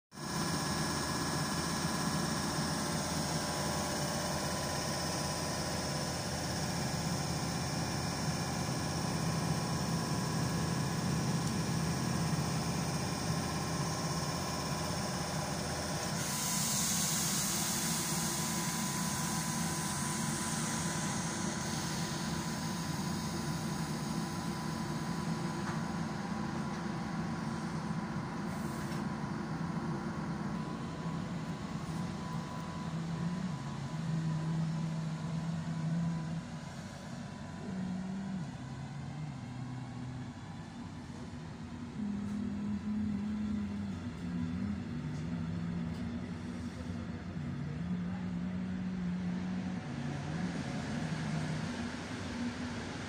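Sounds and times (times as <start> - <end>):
locomotive equipment humming: 0.3 - 50.2.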